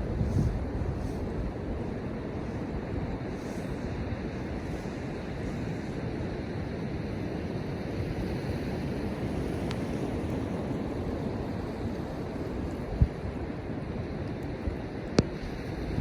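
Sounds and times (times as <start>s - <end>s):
ocean surf on a beach: 0.0s - 16.0s
wind on microphone: 0.0s - 16.0s.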